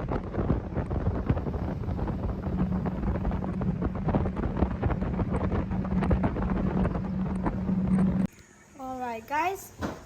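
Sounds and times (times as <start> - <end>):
boat motor drone: 0.0 - 8.3
wind buffeting microphone: 0.0 - 8.3.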